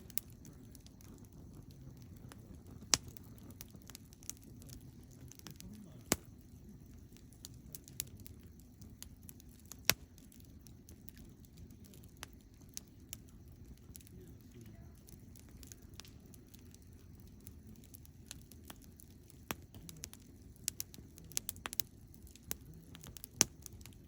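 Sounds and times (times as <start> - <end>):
campfire crackling: 0.0 - 24.0
low steady rumble: 0.0 - 24.0.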